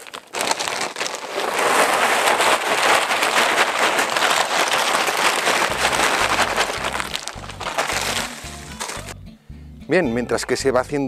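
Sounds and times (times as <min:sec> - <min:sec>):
charcoal lumps pouring and clattering: 0:00.0 - 0:09.2.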